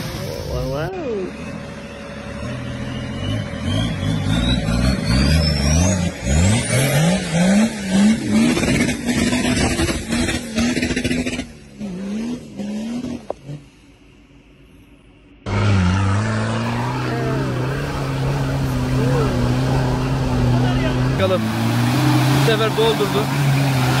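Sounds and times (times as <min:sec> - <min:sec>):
truck engine revving hard: 0:00.0 - 0:13.6, 0:15.4 - 0:24.0.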